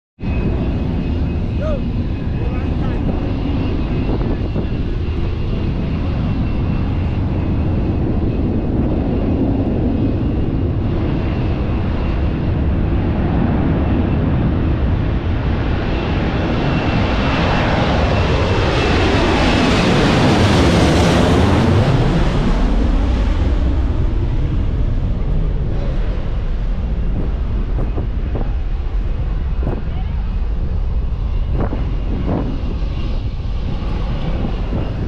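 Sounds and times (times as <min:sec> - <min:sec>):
high-pitched jet whine: 0:00.2 - 0:35.0
jet engine roar: 0:00.2 - 0:35.0.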